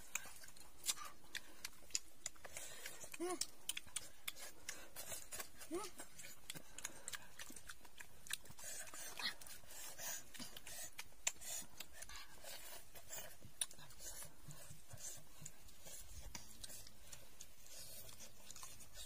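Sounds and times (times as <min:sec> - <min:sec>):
wet chewing and lip smacks: 0:00.0 - 0:19.0.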